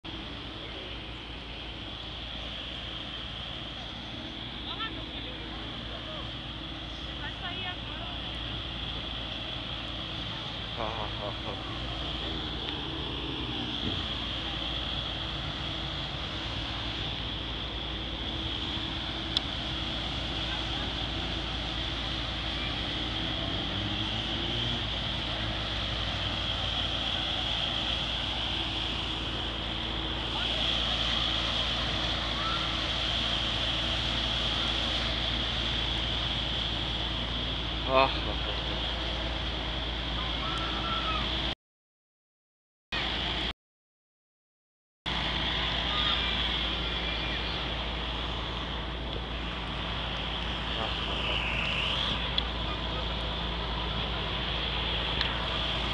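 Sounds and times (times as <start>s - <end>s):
boat engine running: 0.0s - 41.5s, 45.1s - 55.9s
distant traffic: 0.0s - 41.6s, 45.1s - 55.9s
faint voices of passers-by: 0.1s - 41.5s, 45.2s - 55.9s
churning water rush: 0.1s - 41.6s, 43.0s - 43.5s, 45.1s - 55.9s.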